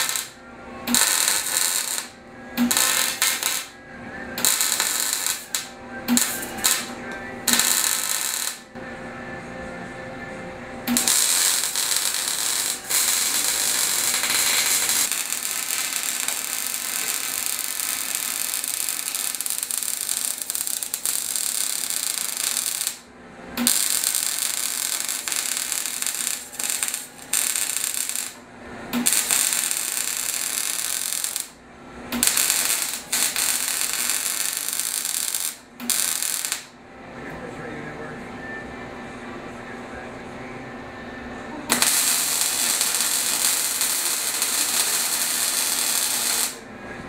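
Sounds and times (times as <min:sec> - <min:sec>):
welding arc crackling: 0:00.0 - 0:03.7, 0:04.4 - 0:06.9, 0:07.5 - 0:08.7, 0:10.9 - 0:23.0, 0:23.6 - 0:36.7, 0:41.7 - 0:46.6.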